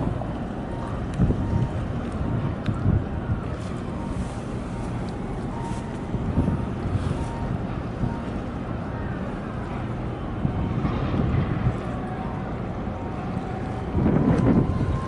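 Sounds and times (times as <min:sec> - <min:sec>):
faint harbour noise: 0:00.0 - 0:15.0
wind buffeting microphone: 0:00.0 - 0:15.0.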